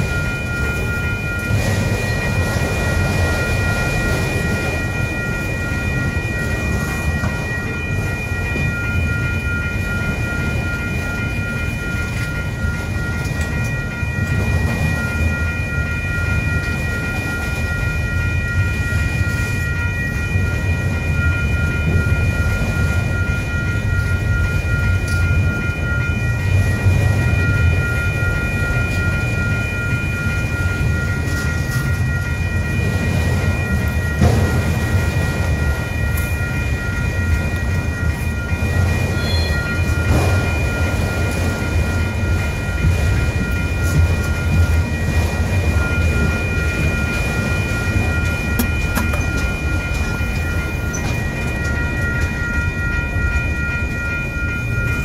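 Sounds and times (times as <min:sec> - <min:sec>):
crossing bell ringing: 0:00.0 - 0:55.0
train wheels rumbling on rail: 0:00.0 - 0:55.0.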